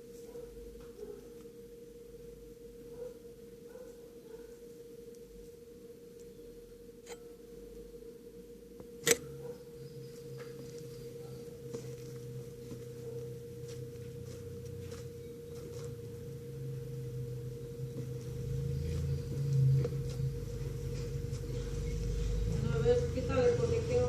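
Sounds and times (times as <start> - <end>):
lower hum: 0.0 - 24.0
steady pure hum: 0.0 - 24.0.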